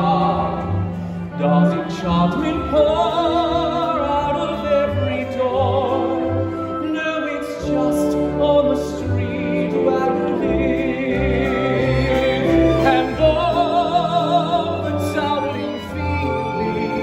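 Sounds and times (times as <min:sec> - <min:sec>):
man singing with vibrato: 0:00.0 - 0:17.0
theatre orchestra: 0:00.0 - 0:17.0.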